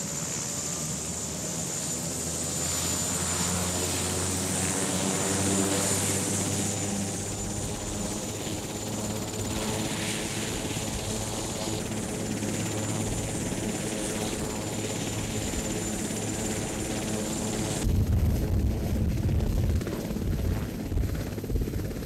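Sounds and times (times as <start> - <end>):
helicopter rotor and turbine din: 0.0 - 22.0.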